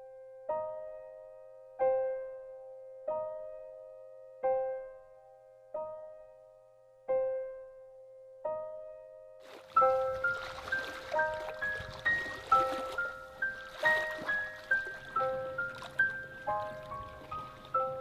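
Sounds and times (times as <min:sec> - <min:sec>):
soft keyboard chords: 0:00.0 - 0:18.0.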